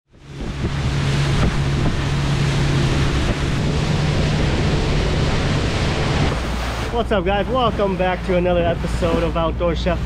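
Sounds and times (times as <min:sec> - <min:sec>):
boat engine hum: 0:00.1 - 0:10.0
water rushing along hull: 0:00.1 - 0:10.0
wind buffeting microphone: 0:00.1 - 0:10.0.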